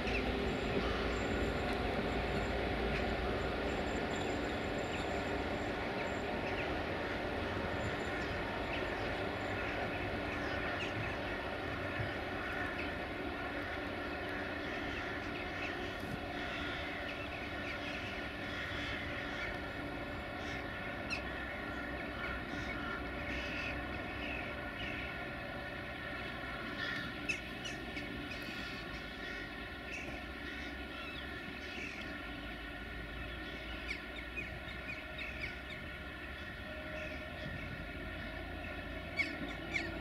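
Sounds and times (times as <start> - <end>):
locomotive humming: 0.0 - 40.0.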